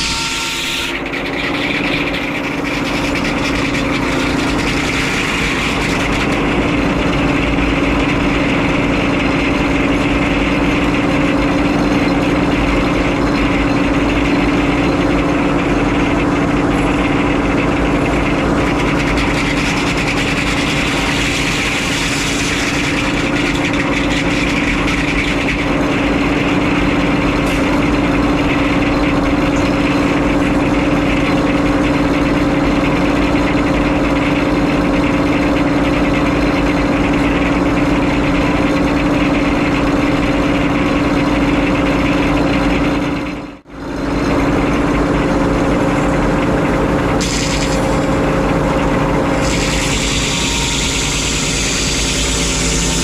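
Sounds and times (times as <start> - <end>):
sawmill engine humming: 0.0 - 53.0.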